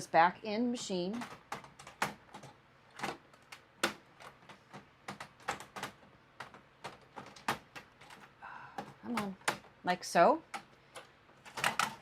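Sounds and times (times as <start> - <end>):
sharp plastic clicks: 1.2 - 9.8, 10.5 - 12.0.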